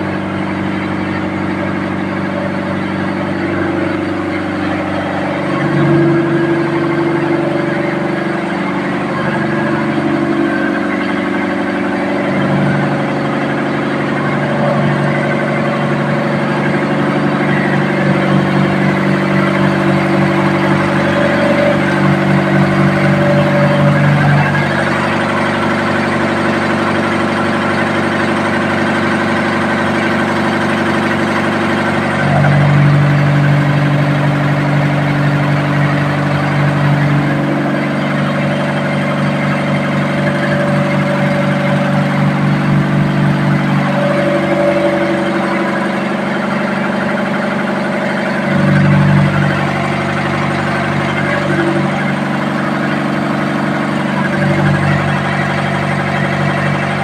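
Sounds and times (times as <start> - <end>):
ship engine droning: 0.0 - 57.0.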